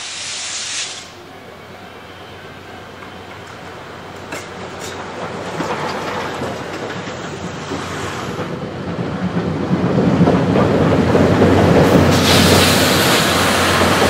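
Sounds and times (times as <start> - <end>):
steam train running on bridge: 0.0 - 14.0
wheels on rail: 0.0 - 14.0.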